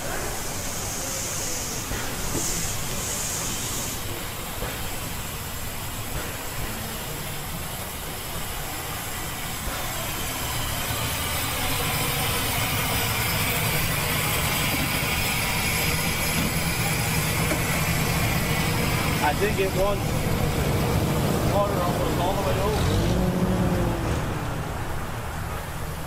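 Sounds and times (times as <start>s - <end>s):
hiss: 0.0s - 24.5s
engines running: 3.9s - 26.0s.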